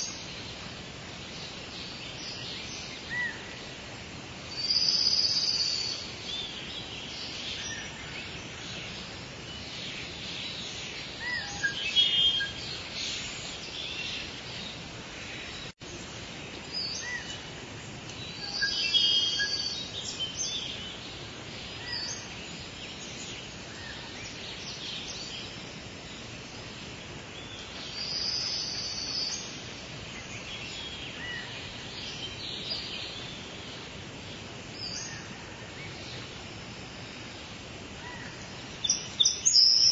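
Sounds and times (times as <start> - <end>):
birds chirping and trilling: 0.0 - 39.9
soft rain hiss: 0.0 - 39.9.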